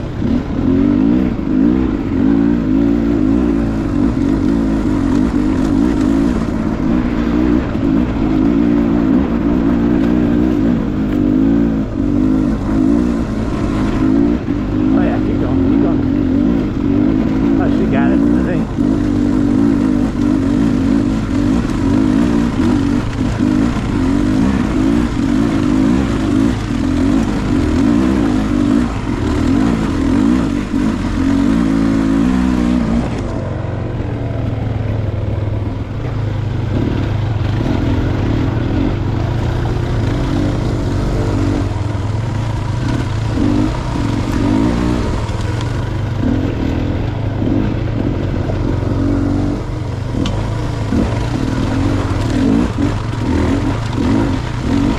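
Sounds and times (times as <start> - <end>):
dirt bike engine revving: 0.0 - 34.6, 36.6 - 54.9.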